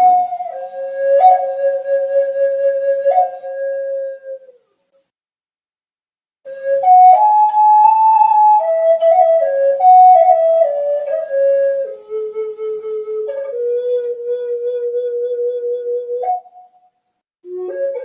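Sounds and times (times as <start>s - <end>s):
wooden flute melody: 0.0s - 4.7s, 6.5s - 18.0s.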